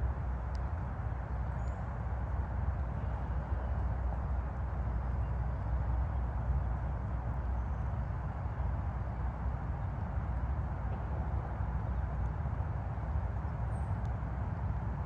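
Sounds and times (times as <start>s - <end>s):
distant highway traffic hum: 0.0s - 15.0s.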